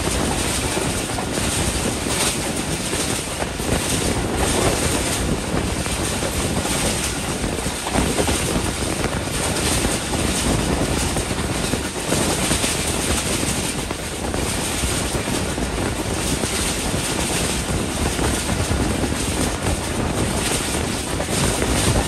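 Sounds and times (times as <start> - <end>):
train wheels rolling on rails: 0.0 - 22.0
wind buffeting microphone: 0.0 - 22.0.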